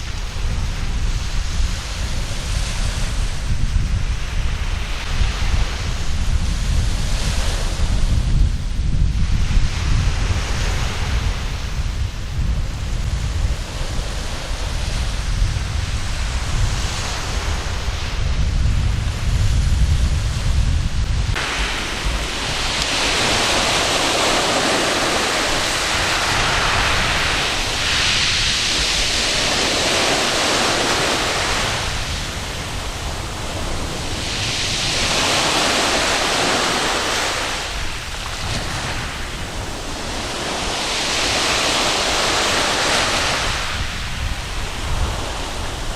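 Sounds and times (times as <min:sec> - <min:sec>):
waves breaking on beach: 0:00.0 - 0:45.9
wind rumbling on microphone: 0:00.0 - 0:45.9.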